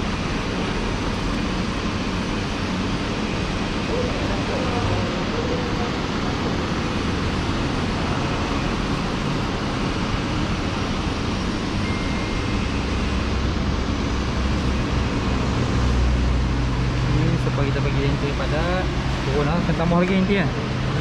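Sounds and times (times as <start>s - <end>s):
deeper hum: 0.0s - 21.0s
machine and air compressor hum: 0.0s - 21.0s.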